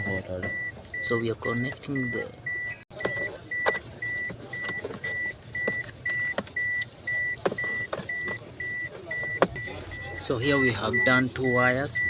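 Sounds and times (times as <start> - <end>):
high-pitched electronic beeping: 0.0 - 12.0.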